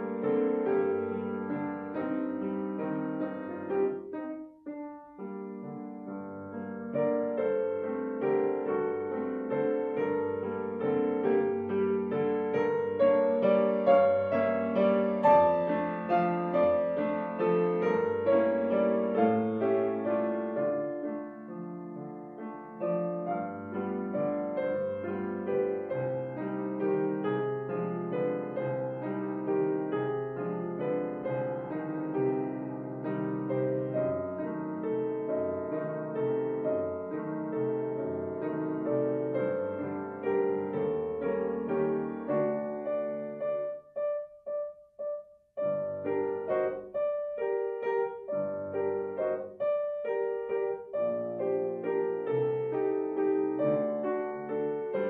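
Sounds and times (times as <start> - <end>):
solo grand piano: 0.0 - 55.0.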